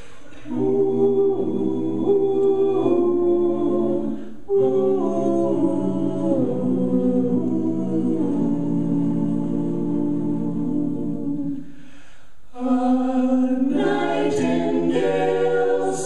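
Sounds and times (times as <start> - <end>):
a cappella group singing chords: 0.0 - 16.0.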